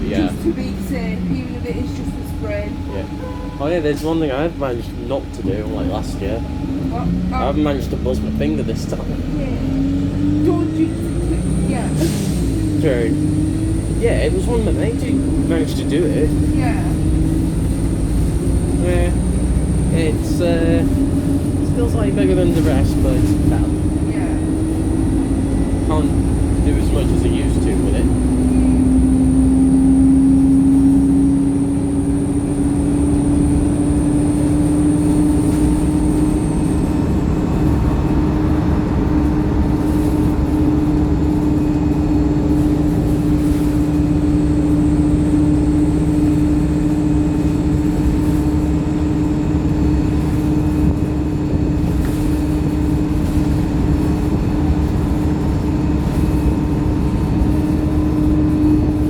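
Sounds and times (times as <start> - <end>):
bus engine rumble: 0.0 - 59.0
drivetrain whine: 0.0 - 59.0.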